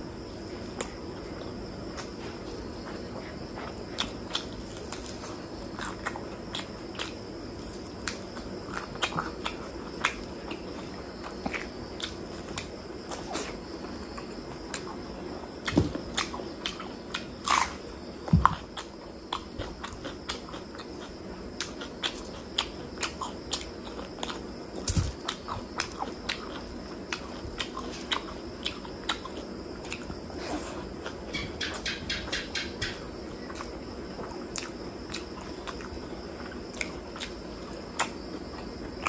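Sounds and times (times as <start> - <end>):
chewing and wet mouth sounds: 0.8 - 31.8, 32.8 - 39.0.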